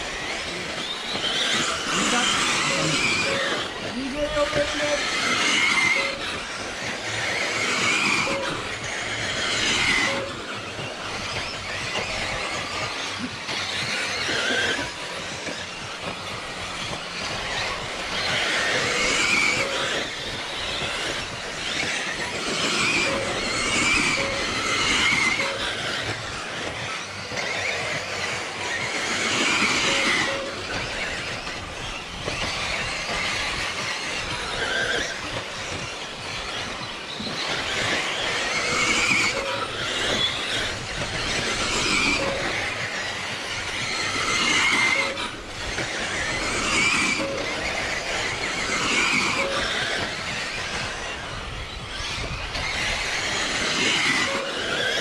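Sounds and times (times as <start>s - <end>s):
rc car motors whining: 0.0s - 55.0s.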